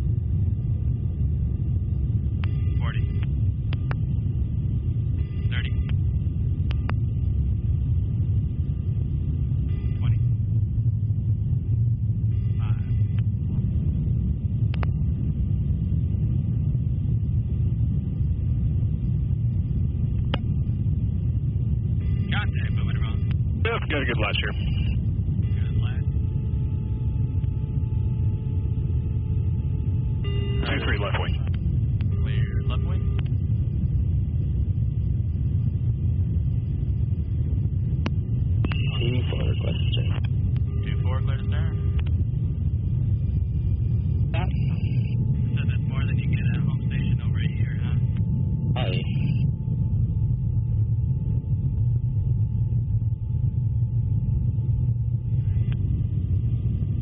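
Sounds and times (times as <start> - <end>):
aircraft low rumble: 0.0 - 57.0
faint hum tones: 0.0 - 57.0.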